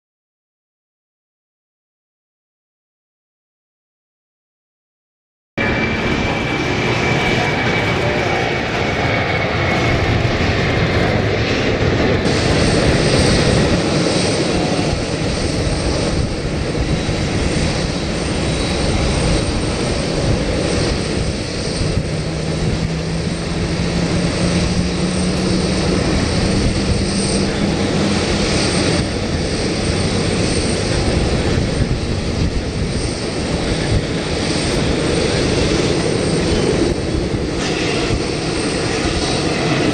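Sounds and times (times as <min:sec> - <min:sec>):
jet engine rushing and whine: 0:05.6 - 0:39.9.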